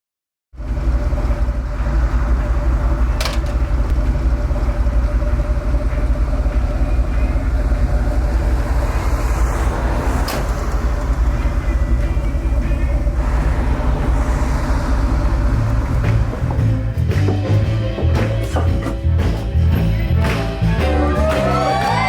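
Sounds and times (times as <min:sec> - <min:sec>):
vehicle engine rumbling: 0:00.5 - 0:22.0.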